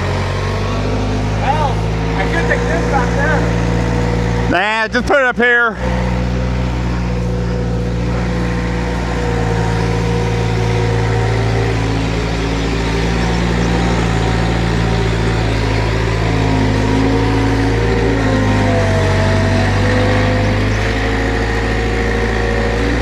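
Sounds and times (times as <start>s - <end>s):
vehicle engine running steadily: 0.0s - 23.0s.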